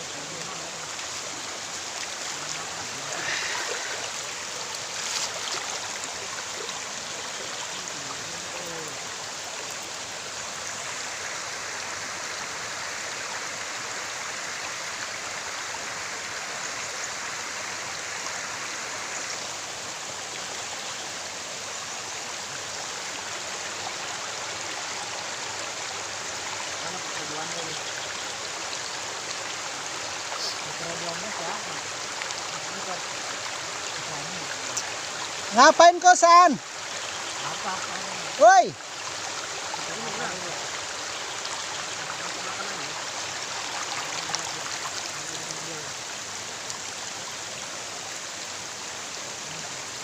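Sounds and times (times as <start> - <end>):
flowing forest stream: 0.0 - 50.0.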